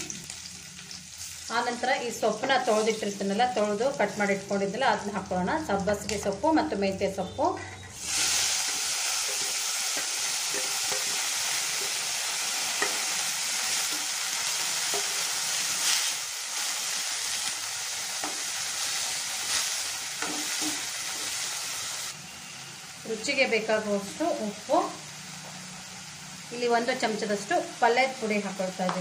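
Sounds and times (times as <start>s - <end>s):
leaves sizzling in hot oil: 0.0s - 29.0s.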